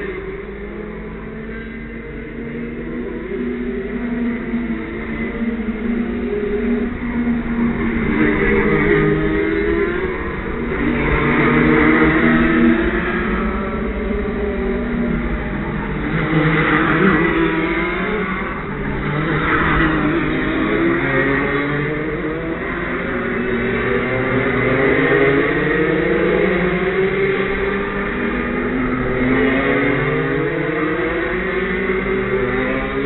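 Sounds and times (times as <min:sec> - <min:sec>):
go-kart engines revving: 0:00.0 - 0:33.0.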